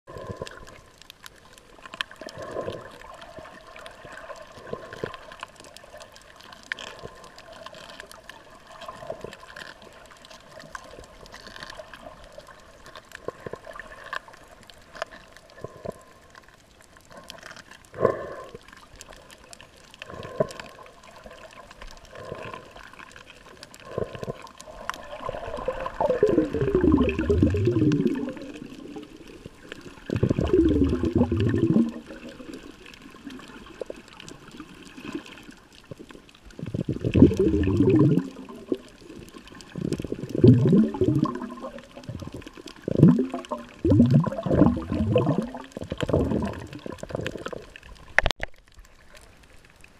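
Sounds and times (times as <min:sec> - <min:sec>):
gurgling bubbles: 0:00.1 - 0:01.0, 0:01.8 - 0:14.6, 0:17.1 - 0:48.4
faint underwater hum: 0:00.1 - 0:49.9.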